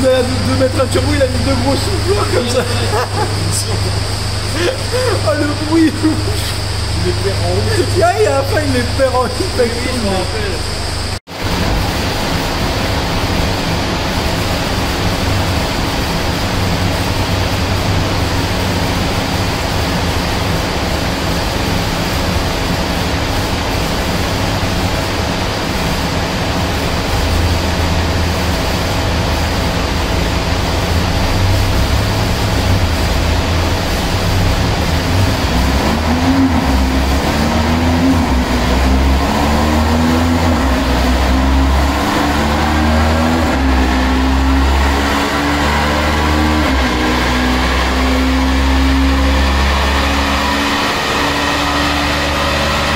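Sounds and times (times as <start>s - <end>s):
car engine revving: 0.0s - 52.9s
steady rushing noise: 0.0s - 52.9s.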